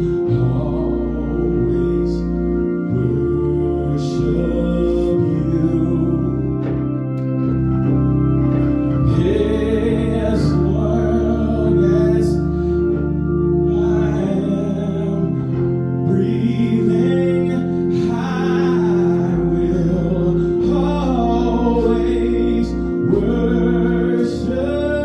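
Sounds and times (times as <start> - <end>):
organ chords: 0.0 - 25.0
worship singing: 0.0 - 25.0.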